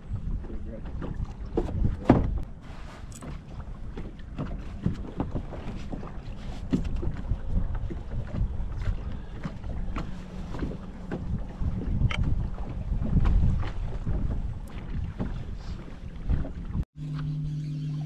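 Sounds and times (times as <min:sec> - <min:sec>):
wind buffeting microphone: 0:00.0 - 0:02.6, 0:03.3 - 0:16.9
waves lapping against boat hull: 0:00.0 - 0:17.3.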